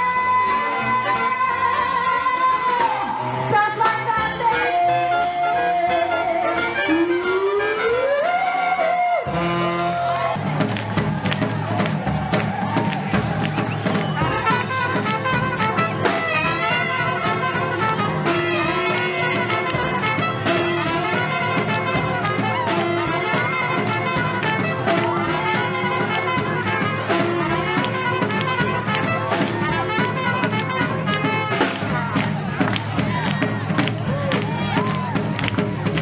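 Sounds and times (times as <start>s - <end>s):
brass swing band music: 0.0s - 36.0s.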